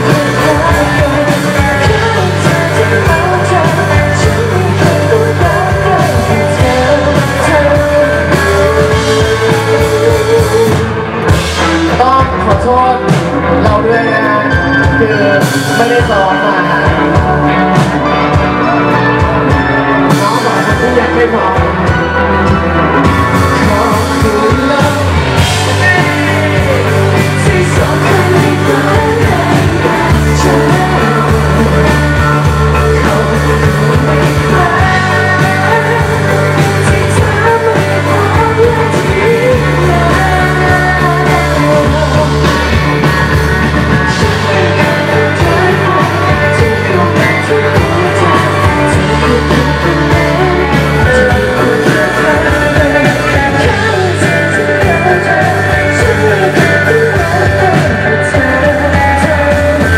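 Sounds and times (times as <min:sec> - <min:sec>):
rock band playing: 0:00.0 - 0:59.9
woman singing: 0:00.0 - 0:59.9.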